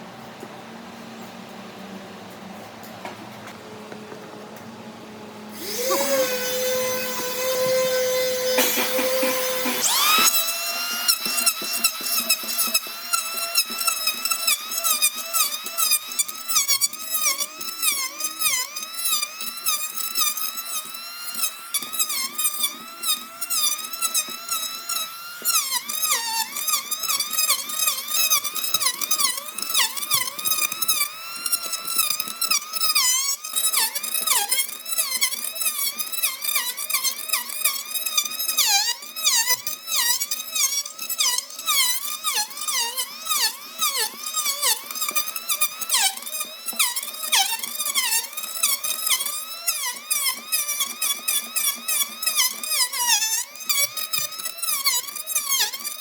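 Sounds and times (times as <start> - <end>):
power tool whining into wood: 5.5 - 56.0.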